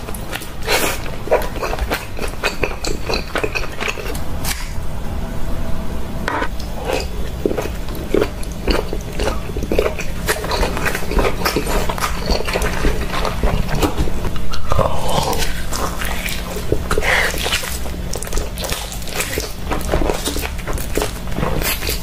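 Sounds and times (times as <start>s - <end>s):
chewing with mouth smacks: 0.0s - 4.7s, 6.5s - 22.0s.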